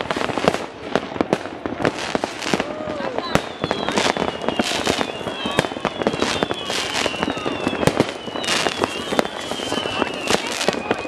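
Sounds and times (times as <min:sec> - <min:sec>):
falling fireworks whistles: 0:00.0 - 0:11.0
fireworks bangs and crackling: 0:00.0 - 0:11.0.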